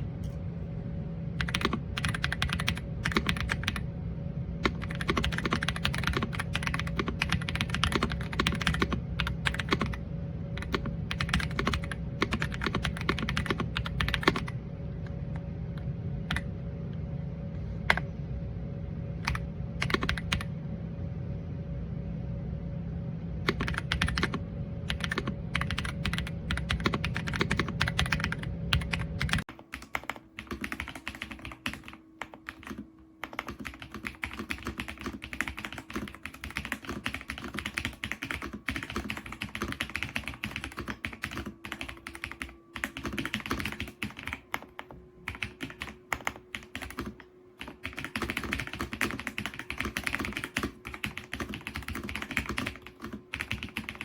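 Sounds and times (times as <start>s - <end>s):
low background hum: 0.0s - 54.0s
rapid typing on mechanical keyboard: 1.4s - 3.8s, 4.6s - 14.6s, 19.2s - 20.5s, 23.5s - 54.0s.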